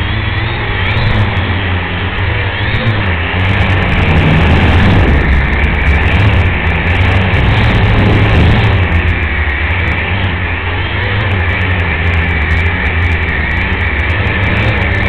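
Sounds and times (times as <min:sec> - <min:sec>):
drone propeller whir: 0:00.0 - 0:15.0
wind rumble on microphone: 0:00.0 - 0:15.0.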